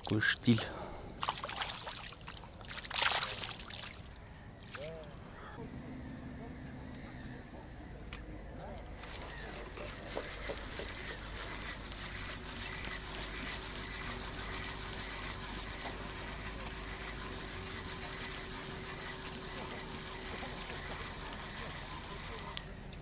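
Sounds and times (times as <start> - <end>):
distant engine humming: 3.4 - 23.0.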